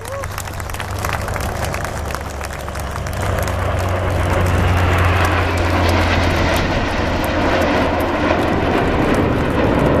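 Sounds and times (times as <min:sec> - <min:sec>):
jet aircraft roar: 0:00.0 - 0:10.0.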